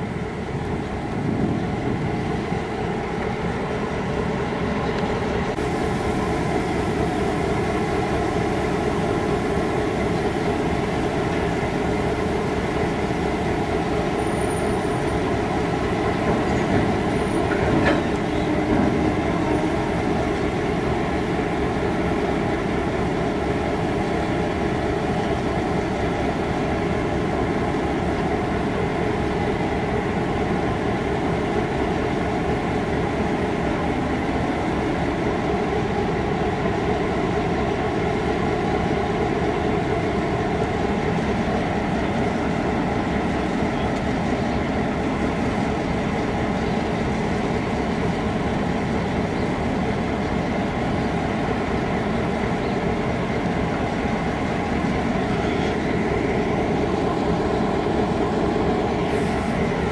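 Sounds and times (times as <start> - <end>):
locomotive engines idling: 0.0 - 59.9.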